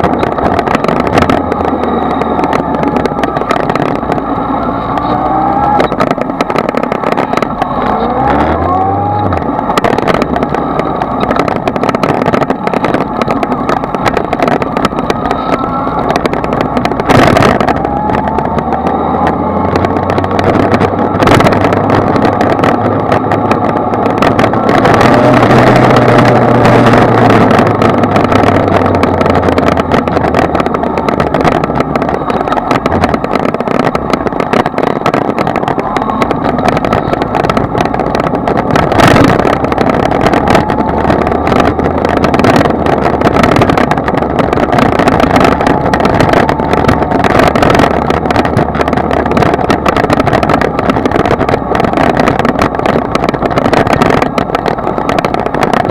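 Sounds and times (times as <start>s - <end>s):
dense rushing noise: 0.0s - 55.9s
motorcycle engine running: 0.0s - 55.9s.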